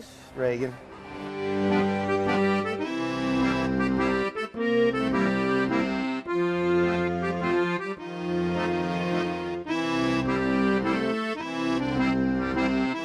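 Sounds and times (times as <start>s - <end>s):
accordion playing chords: 0.0s - 13.0s.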